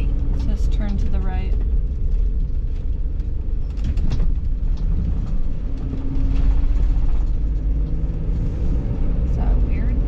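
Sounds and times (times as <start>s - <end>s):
light rattles: 0.0s - 8.9s
road and engine rumble: 0.0s - 10.0s.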